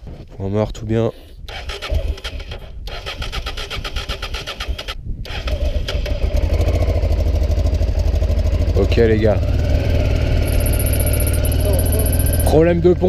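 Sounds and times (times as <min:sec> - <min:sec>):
motorcycle engine cranking and starting: 0:01.5 - 0:13.0.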